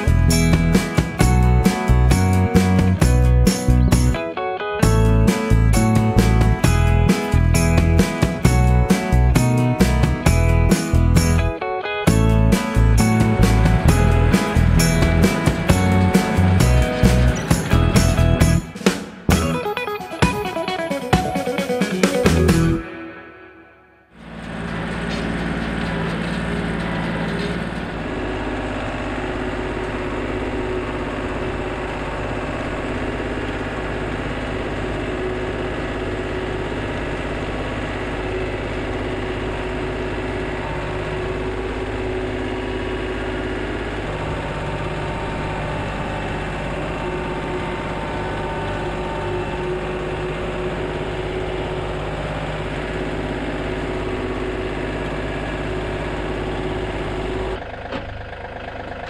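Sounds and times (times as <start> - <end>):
tractor engine running: 0.0 - 23.2, 24.1 - 59.0.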